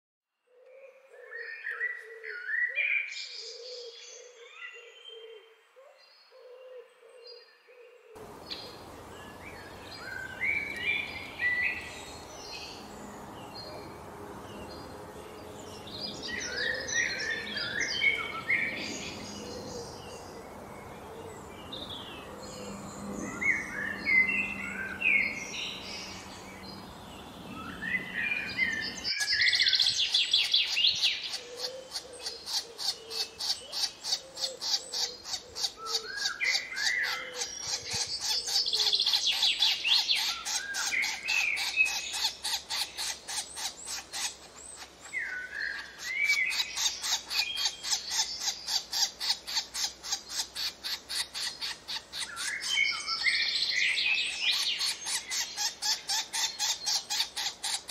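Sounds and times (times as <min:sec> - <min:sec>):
wild birds chirping: 0:00.4 - 0:57.9.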